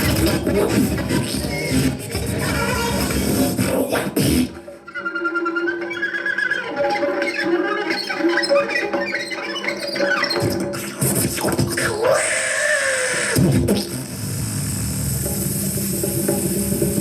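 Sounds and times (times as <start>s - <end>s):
harsh noise with sliding tone: 0.0s - 17.0s.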